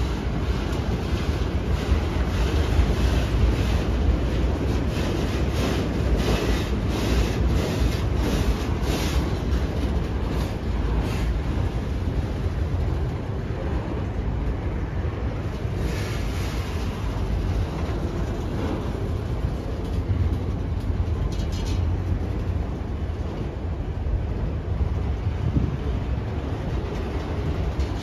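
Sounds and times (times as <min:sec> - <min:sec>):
train wheel clacks: 0:00.0 - 0:13.8, 0:15.4 - 0:23.8, 0:25.5 - 0:28.0
steel wheels rumbling on rail: 0:00.0 - 0:28.0.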